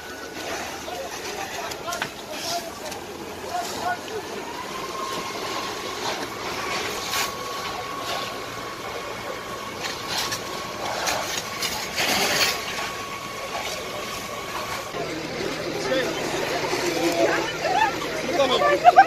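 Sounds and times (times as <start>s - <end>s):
engine running: 0.0s - 19.0s
fire hose water rushing: 0.0s - 19.0s.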